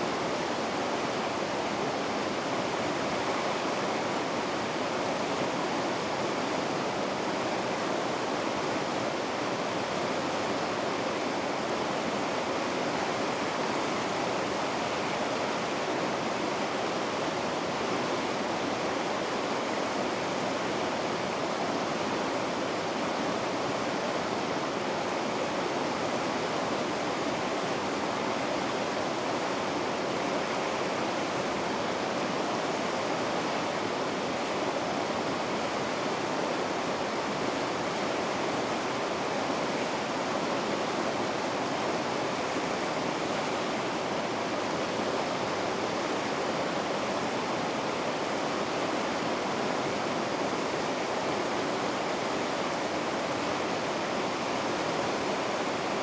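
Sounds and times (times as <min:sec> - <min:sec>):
river rapids roaring: 0:00.0 - 0:56.0.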